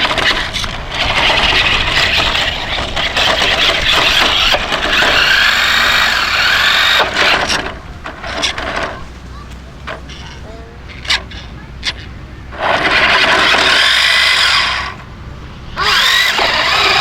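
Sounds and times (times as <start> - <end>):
toy truck electric motor whirring: 0.0 - 9.1, 9.9 - 15.1, 15.7 - 17.0.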